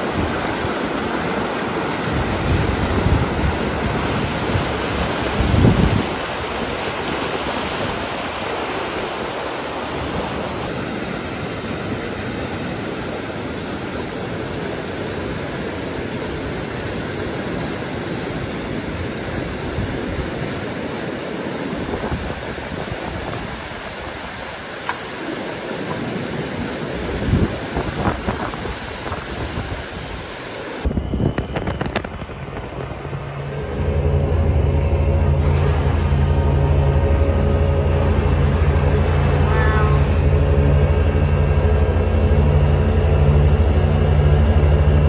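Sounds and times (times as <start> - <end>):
low machine hum: 0.0 - 29.9, 30.5 - 45.0
steady rushing noise: 0.0 - 45.0.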